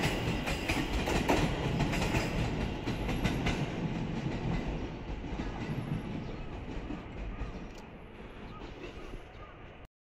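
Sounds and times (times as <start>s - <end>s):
train wheels clacking over rail joints: 0.0s - 9.8s.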